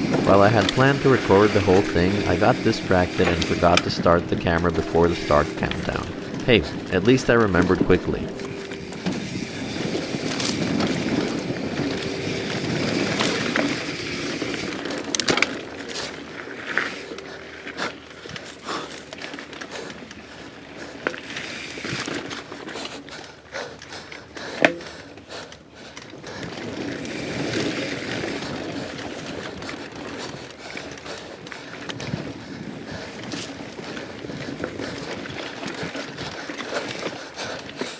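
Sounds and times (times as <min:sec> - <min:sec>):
bike rattles and knocks: 0:00.0 - 0:02.4, 0:08.5 - 0:37.9.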